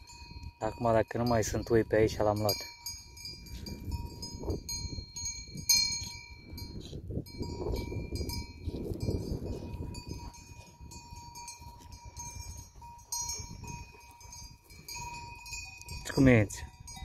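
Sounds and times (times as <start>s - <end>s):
goat bells clanking: 0.0s - 17.0s.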